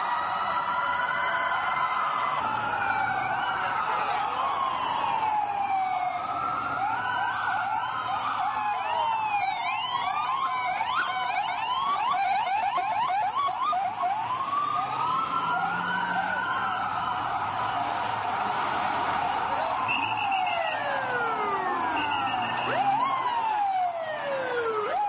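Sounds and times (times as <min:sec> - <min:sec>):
fast siren yelp: 0:00.0 - 0:25.0
sirens wailing: 0:00.0 - 0:25.0.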